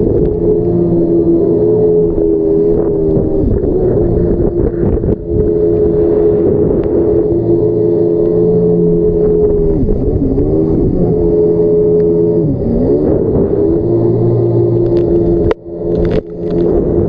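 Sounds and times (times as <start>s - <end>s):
jet ski engine revving: 0.0s - 17.0s.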